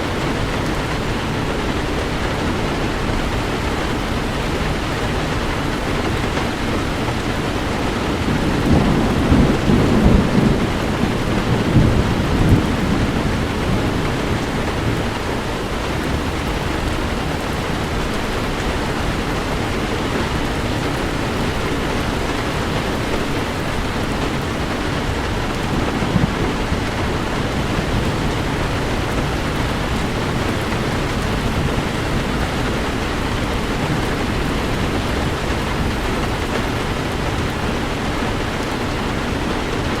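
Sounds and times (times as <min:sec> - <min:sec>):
heavy rain falling: 0:00.0 - 0:40.0
thunder rumble: 0:00.0 - 0:40.0.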